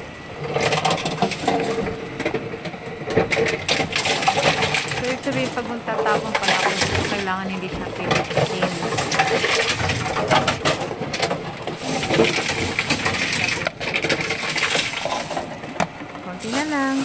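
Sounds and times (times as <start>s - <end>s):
plastic bottles clattering and crushing: 0.4s - 17.0s.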